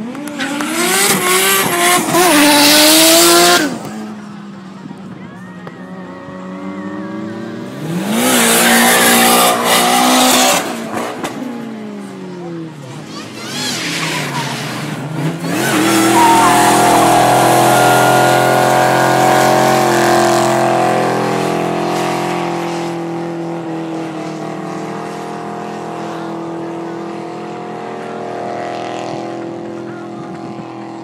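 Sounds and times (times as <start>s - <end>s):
car engine revving: 0.0s - 4.1s, 7.4s - 31.0s.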